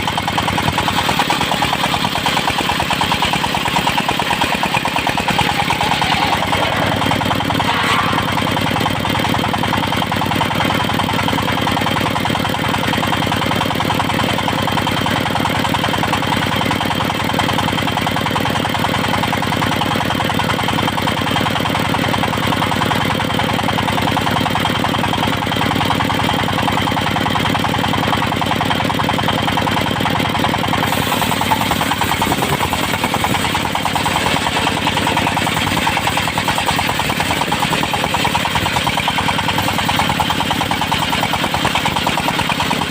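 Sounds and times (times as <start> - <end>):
sawmill engine and saw whine: 0.0 - 42.9.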